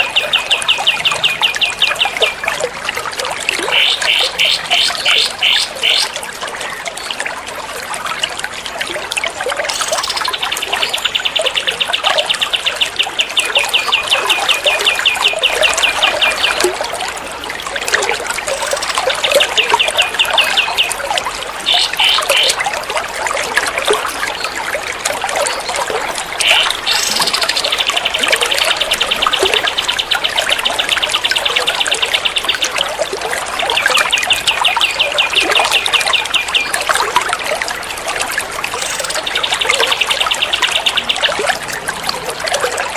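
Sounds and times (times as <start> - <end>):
trickling water: 0.0 - 42.9.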